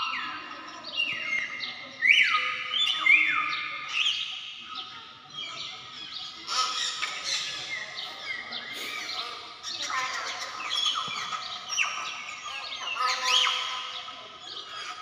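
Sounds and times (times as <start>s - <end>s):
birds whistling calls: 0.0s - 15.0s.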